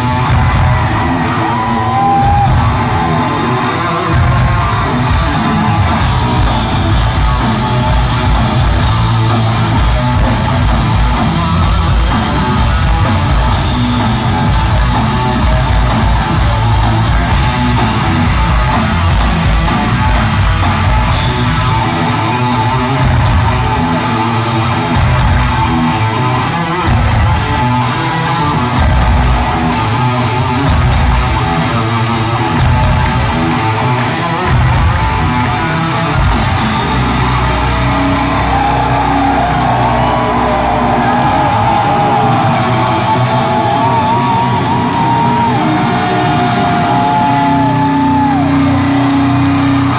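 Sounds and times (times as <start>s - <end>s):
heavy metal band playing live: 0.0s - 49.9s.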